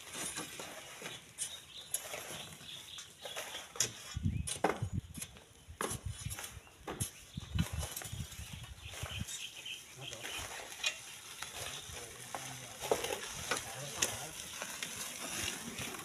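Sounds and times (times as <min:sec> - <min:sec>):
sand and gravel scraping: 0:00.0 - 0:16.0.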